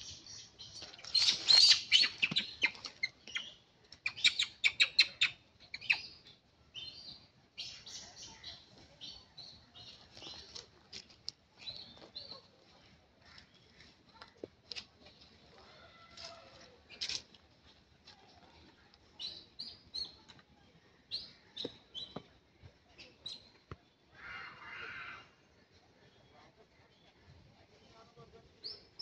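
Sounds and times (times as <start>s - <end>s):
small birds chirping: 0.0s - 27.3s.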